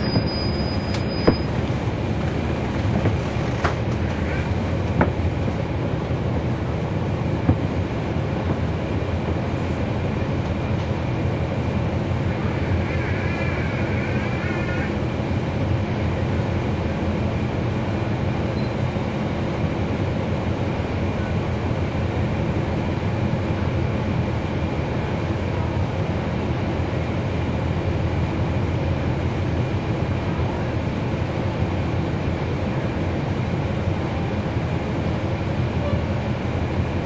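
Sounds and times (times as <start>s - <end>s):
bus diesel engine drone: 0.0s - 37.0s
road noise: 0.0s - 37.0s.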